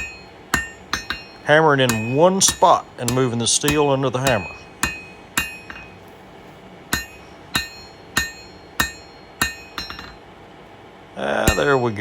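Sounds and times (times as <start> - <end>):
hammer striking steel on anvil: 0.0 - 6.0, 6.9 - 10.2, 11.4 - 12.0.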